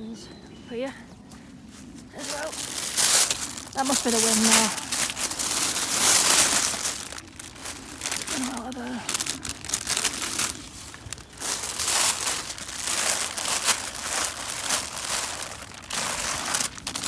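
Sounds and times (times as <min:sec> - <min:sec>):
plastic wrappers crinkling: 0:02.2 - 0:17.0.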